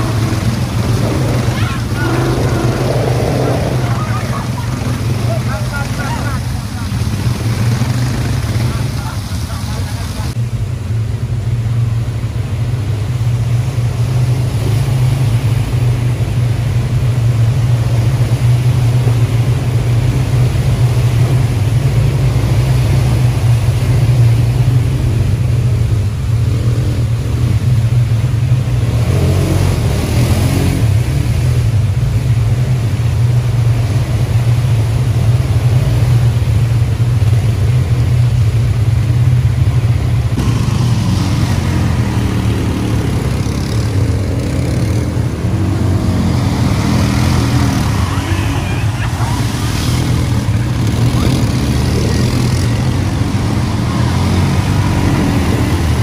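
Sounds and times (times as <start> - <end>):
atv engine droning: 0.0 - 56.0.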